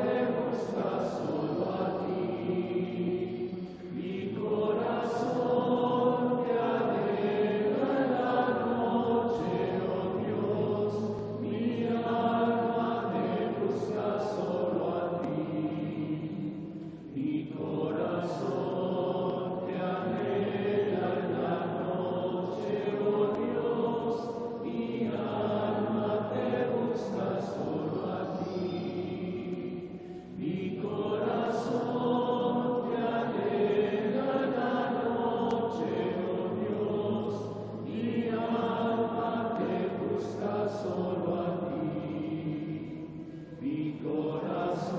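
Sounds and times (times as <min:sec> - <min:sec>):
congregation singing a chant: 0:00.0 - 0:44.9.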